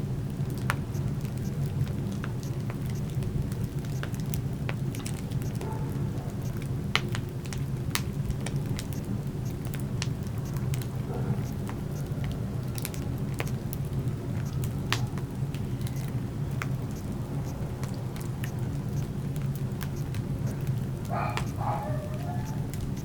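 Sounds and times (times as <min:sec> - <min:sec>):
burning wood crackling: 0:00.0 - 0:23.0
low fire rumble: 0:00.0 - 0:23.0.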